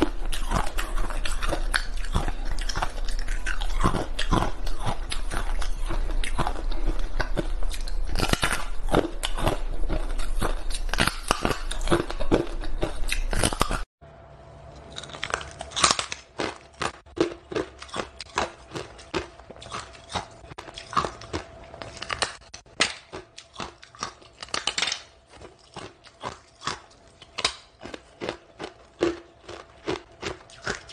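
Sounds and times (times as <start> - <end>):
ice crunching being chewed: 0.0 - 13.9, 14.7 - 30.9.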